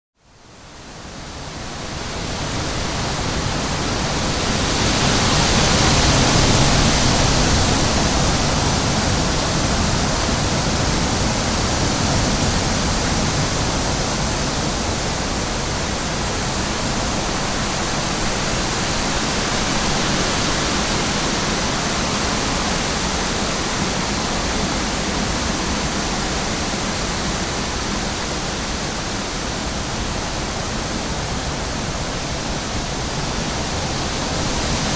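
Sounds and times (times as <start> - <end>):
steady rushing nature ambience: 0.2 - 34.9.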